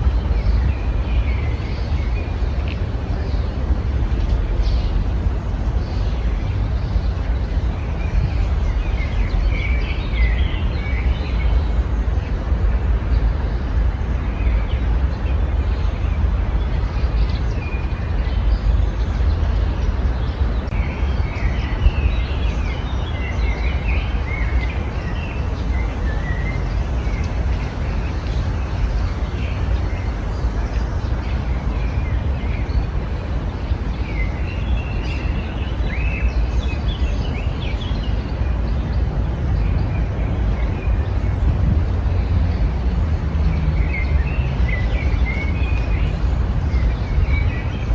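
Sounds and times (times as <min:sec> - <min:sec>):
small birds chirping: 0:00.0 - 0:47.9
steady low rumble: 0:00.0 - 0:47.9.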